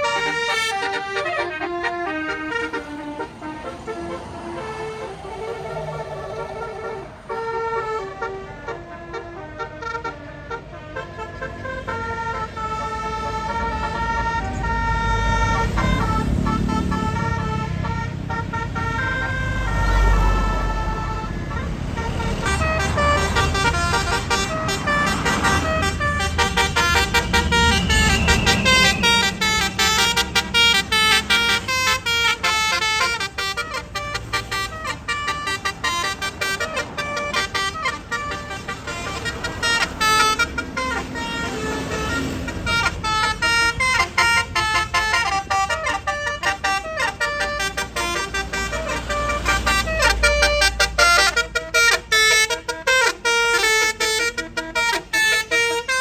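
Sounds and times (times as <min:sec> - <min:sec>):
bus engine running: 0:00.0 - 0:56.0
musical bus horns playing a tune: 0:00.0 - 0:56.0.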